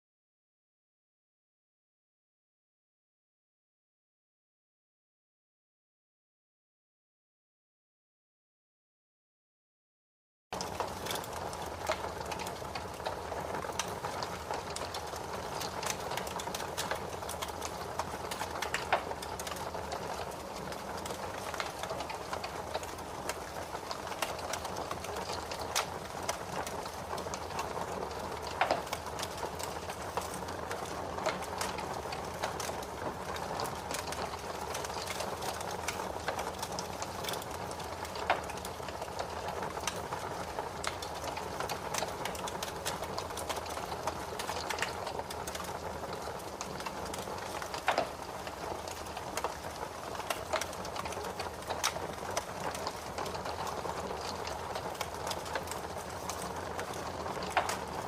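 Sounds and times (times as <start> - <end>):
fire crackling: 10.6 - 58.0.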